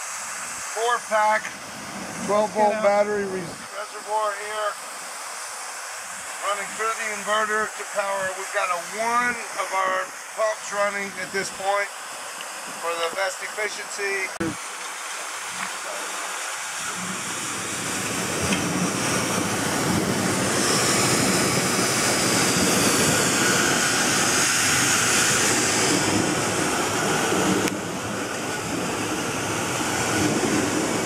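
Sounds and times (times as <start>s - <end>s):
pump rushing noise: 0.0s - 31.0s.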